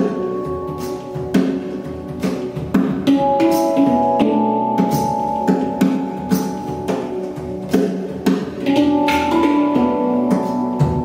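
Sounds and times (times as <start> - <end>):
handpan melody: 0.0 - 11.0.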